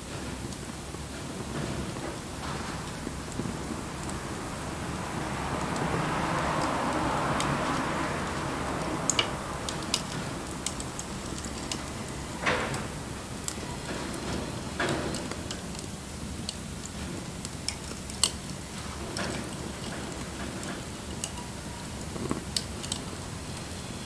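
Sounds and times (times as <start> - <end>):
fire hissing: 0.0 - 24.0
campfire crackling and popping: 0.2 - 24.0.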